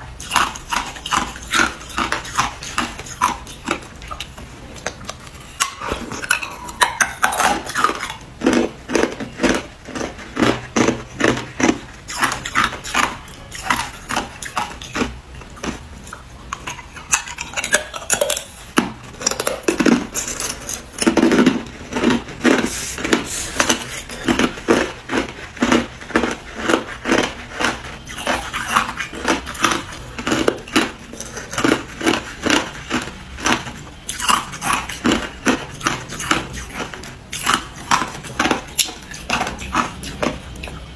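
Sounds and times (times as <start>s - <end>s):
ice cubes crunching in mouth: 0.2s - 40.9s.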